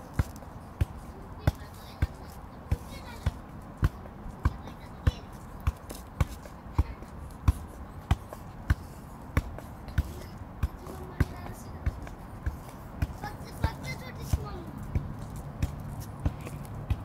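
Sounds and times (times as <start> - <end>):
soccer ball thuds: 0.0 - 17.0.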